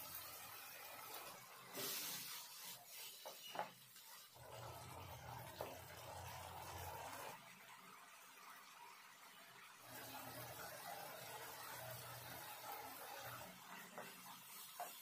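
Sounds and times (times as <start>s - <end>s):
sauce sizzling and bubbling in pan: 0.0s - 15.0s.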